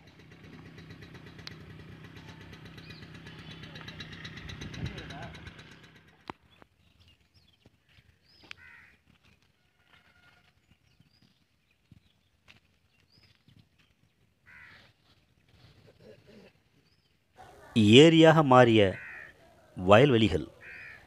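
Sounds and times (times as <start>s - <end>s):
birds chirping: 0.6s - 14.9s, 16.0s - 21.0s.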